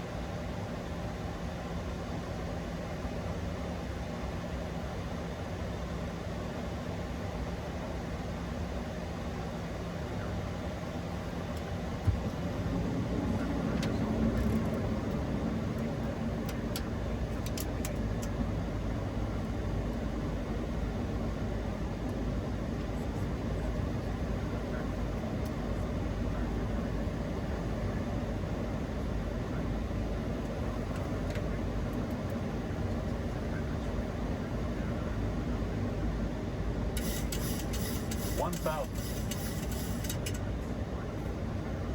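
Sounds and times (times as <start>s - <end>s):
airflow and engines rushing: 0.0s - 41.9s.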